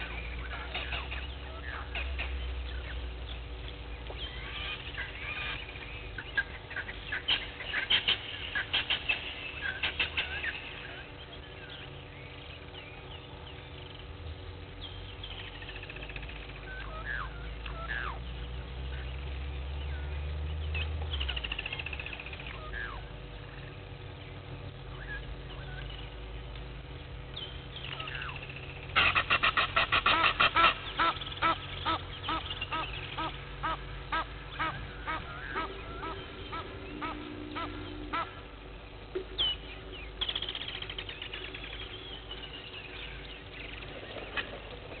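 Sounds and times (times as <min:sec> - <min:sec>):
lapwing sharp tink calls: 0:04.0 - 0:14.1, 0:14.8 - 0:19.2, 0:20.7 - 0:23.8, 0:24.9 - 0:26.3, 0:27.3 - 0:45.0.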